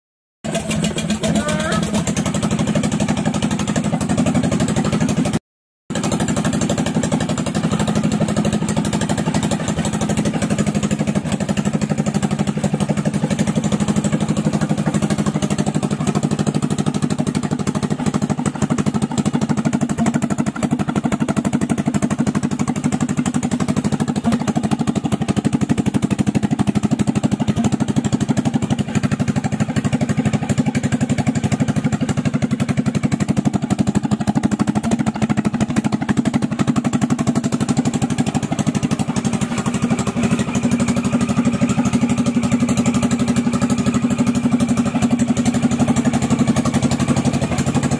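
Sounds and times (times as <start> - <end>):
engine running steadily: 0.4 - 47.9.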